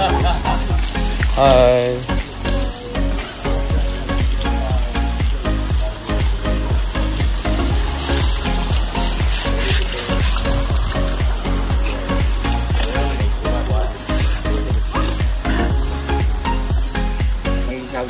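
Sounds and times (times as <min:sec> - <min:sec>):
background music with beat: 0:00.0 - 0:18.0
hose spraying water: 0:00.0 - 0:18.0.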